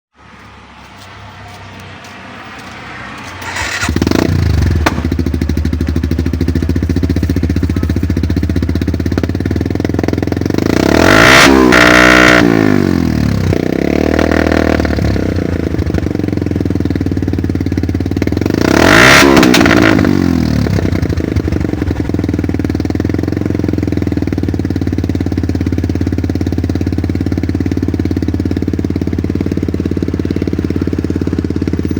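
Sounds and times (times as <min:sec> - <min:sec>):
motorcycle engine idling and revving: 0:00.2 - 0:31.9.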